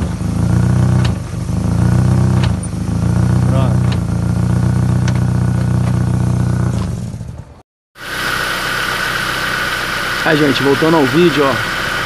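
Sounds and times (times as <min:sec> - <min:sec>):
car engine running: 0:00.0 - 0:12.0
engine hum with high whine: 0:00.0 - 0:12.0.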